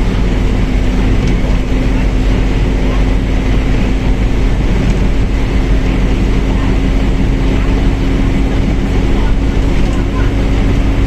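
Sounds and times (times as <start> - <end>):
bus diesel engine rumble: 0.0 - 11.0
steady whine: 0.0 - 11.0.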